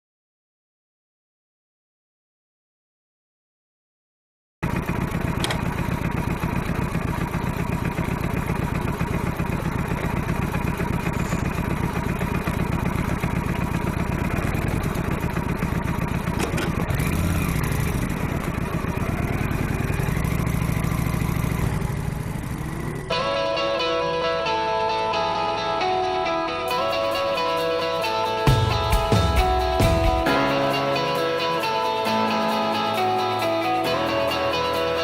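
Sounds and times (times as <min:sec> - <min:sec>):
motorcycle engine running: 0:04.6 - 0:25.6, 0:26.5 - 0:35.0.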